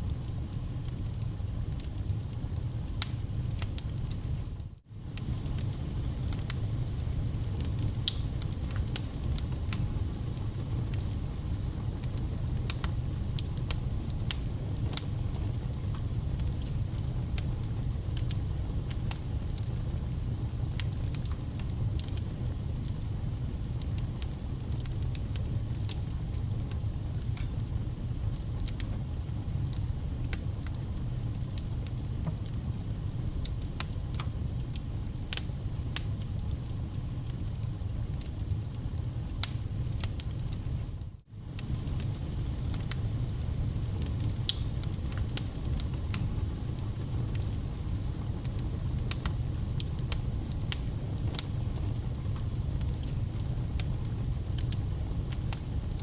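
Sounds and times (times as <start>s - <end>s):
burning logs crackling and popping: 0.0s - 56.0s
campfire flames rumbling: 0.0s - 56.0s.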